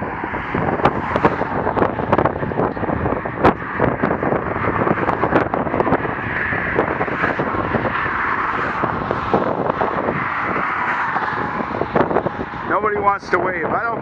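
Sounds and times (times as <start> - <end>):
highway traffic passing: 0.0 - 14.0
wind buffeting microphone: 0.0 - 14.0.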